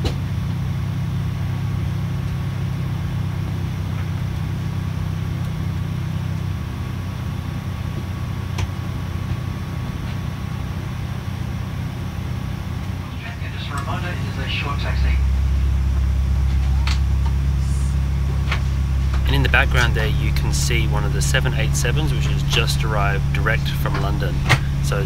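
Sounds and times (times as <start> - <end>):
airplane engines idling hum: 0.0 - 25.0
faint steady whine: 0.0 - 25.0.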